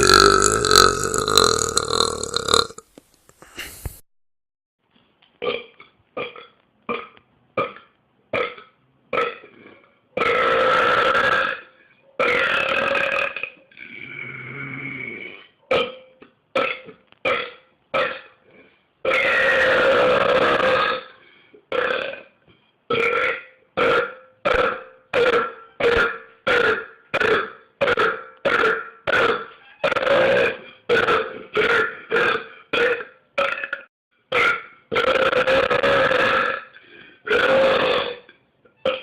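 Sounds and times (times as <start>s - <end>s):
man belching: 0.0s - 2.8s, 5.4s - 18.4s, 19.0s - 21.1s, 21.7s - 22.3s, 22.9s - 39.0s.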